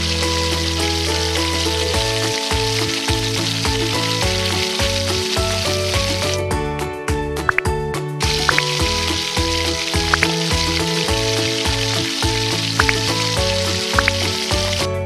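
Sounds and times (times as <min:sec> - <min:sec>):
food sizzling in hot oil: 0:00.0 - 0:06.5, 0:08.2 - 0:15.0
background music: 0:00.0 - 0:15.0.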